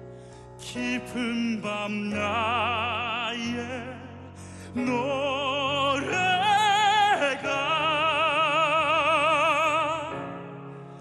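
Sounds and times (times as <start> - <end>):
man singing operatically: 0.6 - 10.4.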